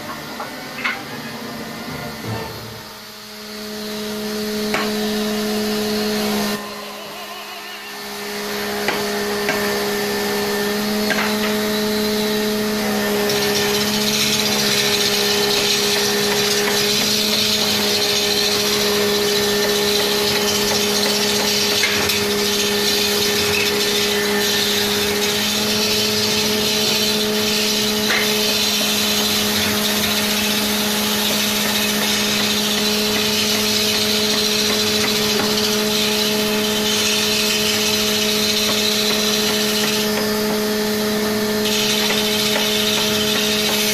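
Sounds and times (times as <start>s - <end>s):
lathe motor humming: 2.7s - 43.9s
tool scraping spinning log: 3.4s - 43.9s.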